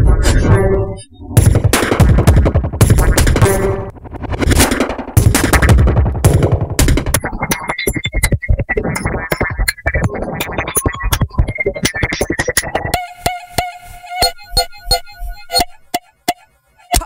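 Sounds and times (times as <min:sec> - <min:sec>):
electronic synthesizer music: 0:00.0 - 0:17.0
sharp clicky percussive hits: 0:00.2 - 0:17.0.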